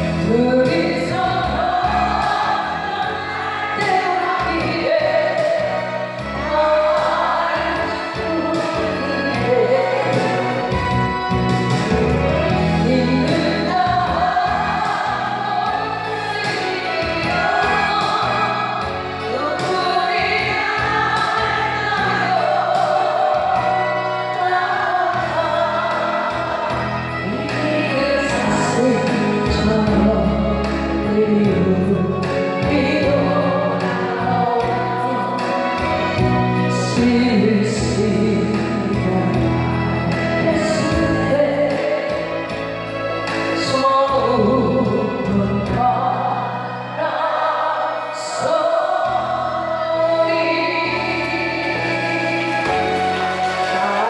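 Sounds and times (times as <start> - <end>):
ballad sung with instrumental backing: 0.0 - 54.0.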